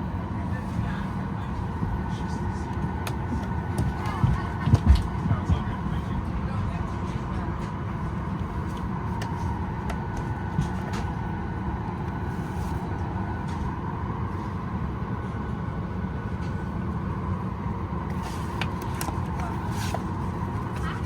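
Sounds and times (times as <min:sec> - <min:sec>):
cabin air-conditioning hum: 0:00.0 - 0:21.0.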